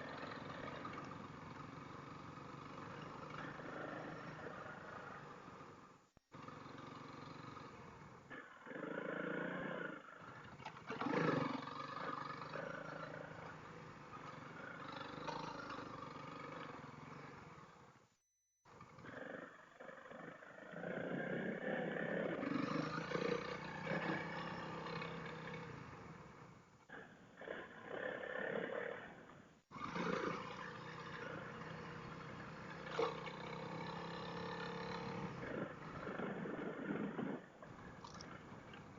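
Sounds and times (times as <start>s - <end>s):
motorcycle engine revving: 0.0s - 17.9s, 21.3s - 26.6s, 29.7s - 38.9s.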